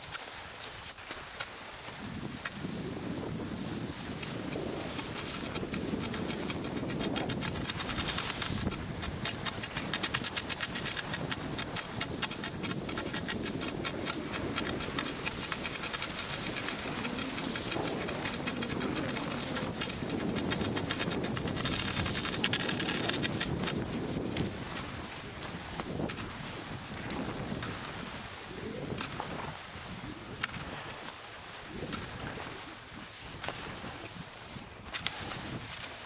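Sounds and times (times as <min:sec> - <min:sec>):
skis scraping over snow: 0:00.0 - 0:36.0
wind rumble on microphone: 0:01.8 - 0:36.0.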